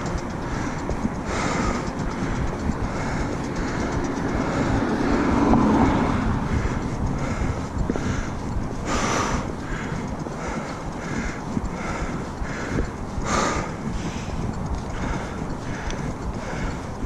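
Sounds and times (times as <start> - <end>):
mountain bike rumble and rattle: 0.0 - 17.0.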